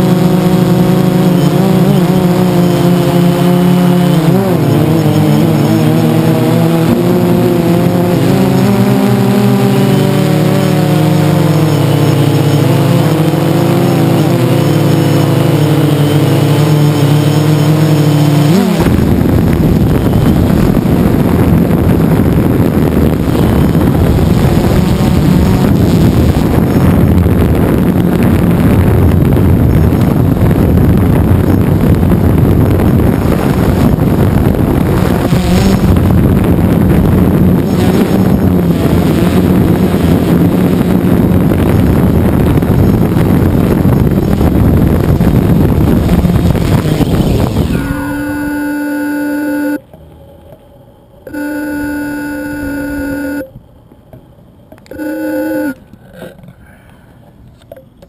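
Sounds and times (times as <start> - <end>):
wind on microphone: 0.0 - 49.8
drone propellers buzzing: 0.0 - 56.5.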